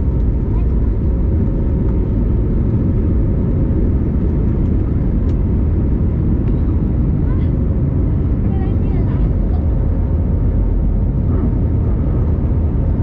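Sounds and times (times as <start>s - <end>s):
jet engines at takeoff power: 0.0s - 13.0s
wheels rumbling on runway: 0.0s - 13.0s.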